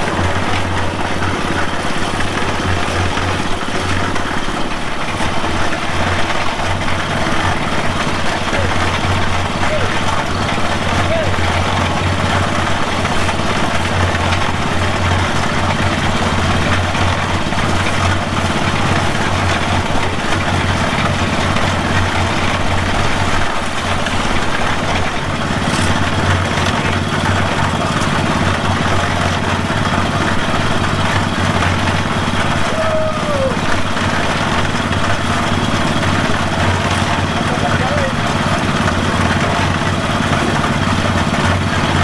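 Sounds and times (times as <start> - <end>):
small engine running: 0.0 - 42.0.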